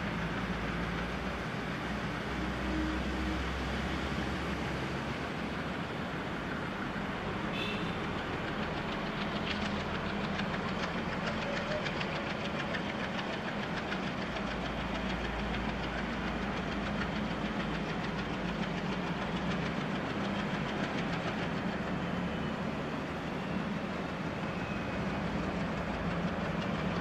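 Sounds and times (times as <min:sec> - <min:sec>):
diesel locomotive engine chugging: 0:00.0 - 0:27.0.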